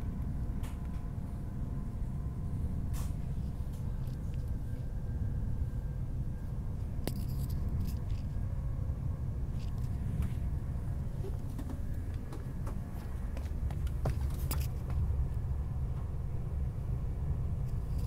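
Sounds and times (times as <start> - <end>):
train rumble inside passenger car: 0.0 - 18.0.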